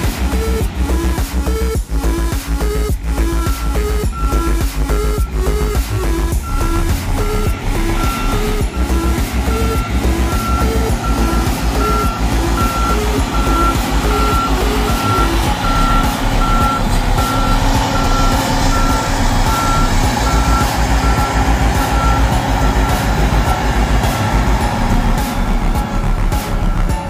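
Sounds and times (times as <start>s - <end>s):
diesel engine under load: 0.0s - 27.0s
reversing alarm beeping: 1.6s - 24.3s, 26.0s - 27.0s.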